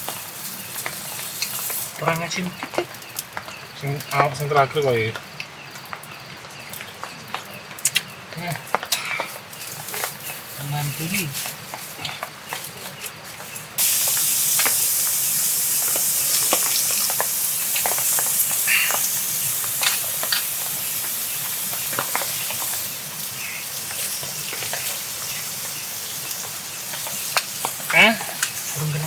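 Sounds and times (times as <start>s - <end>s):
meat sizzling on a pan: 0.0s - 6.2s, 8.4s - 29.0s
crackling pops: 0.0s - 29.0s.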